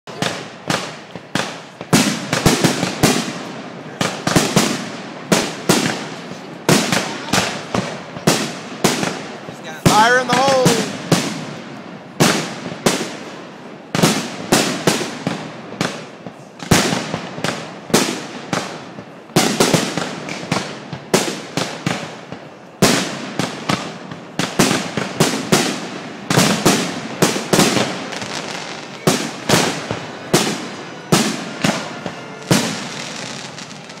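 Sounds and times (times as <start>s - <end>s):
fireworks bursting overhead: 0.0s - 34.0s.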